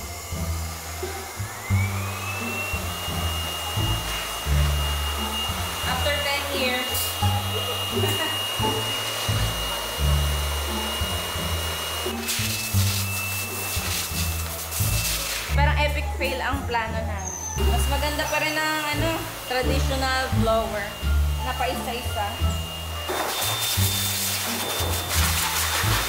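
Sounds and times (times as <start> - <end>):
blower motor whining: 0.0 - 26.0.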